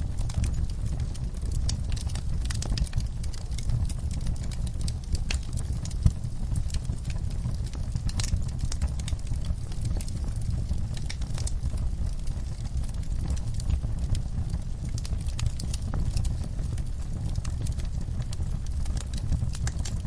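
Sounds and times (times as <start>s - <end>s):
fire popping: 0.0s - 20.0s
low rumble of flames: 0.0s - 20.0s
wood fire crackling: 0.0s - 20.0s.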